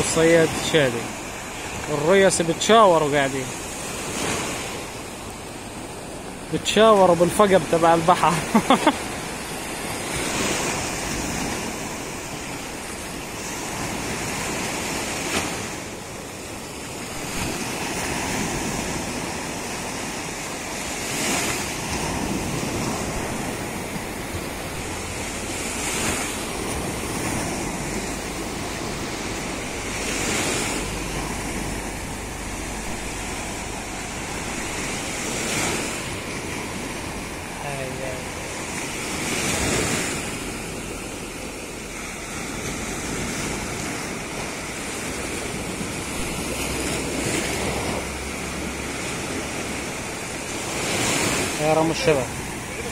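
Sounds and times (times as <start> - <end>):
sea surf breaking on beach: 0.0 - 52.9.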